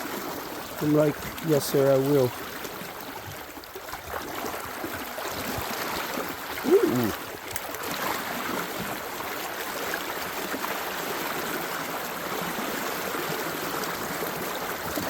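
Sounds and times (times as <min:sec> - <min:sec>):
creek water over rocks: 0:00.0 - 0:15.0.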